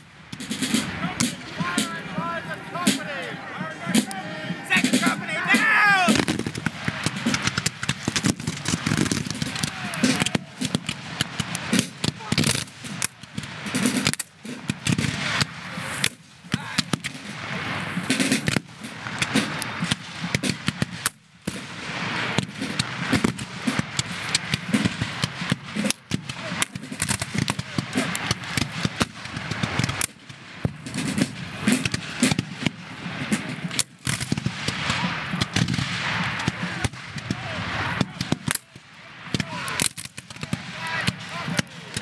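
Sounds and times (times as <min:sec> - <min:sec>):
musket gunfire crackle: 0:04.8 - 0:42.0.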